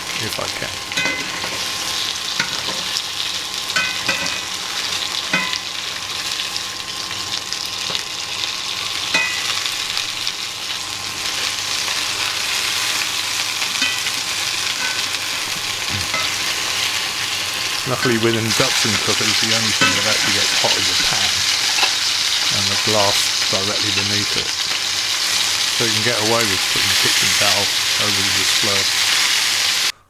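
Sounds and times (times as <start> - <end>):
chicken frying in a pan: 0.0 - 30.0.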